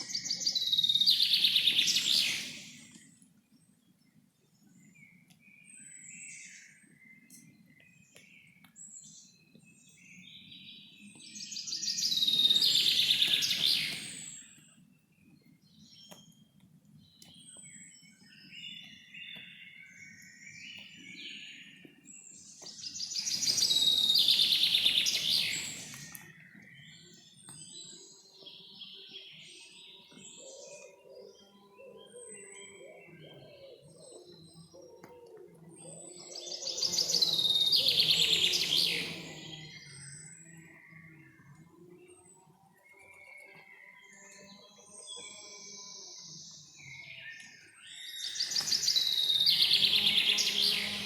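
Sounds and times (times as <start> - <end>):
forest birds chirping and singing: 0.0 - 51.0.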